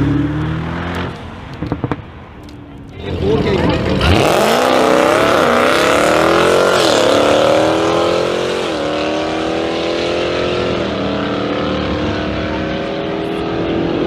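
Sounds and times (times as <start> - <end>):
car engines accelerating hard: 0.0 - 14.0.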